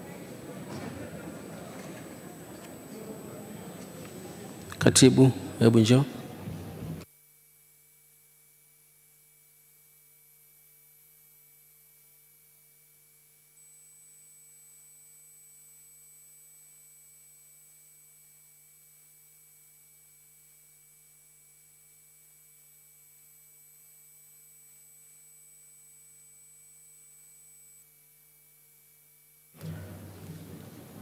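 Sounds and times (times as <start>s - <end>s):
faint steady hum: 0.0s - 31.0s
thin high whine: 0.0s - 31.0s.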